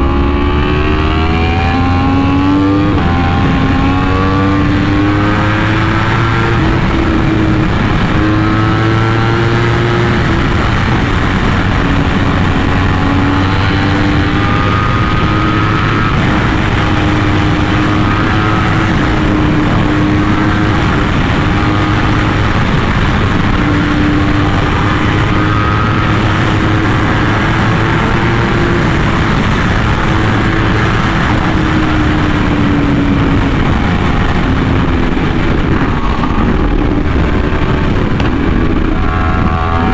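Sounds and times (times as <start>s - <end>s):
motorcycle engine under steady throttle: 0.0s - 39.9s.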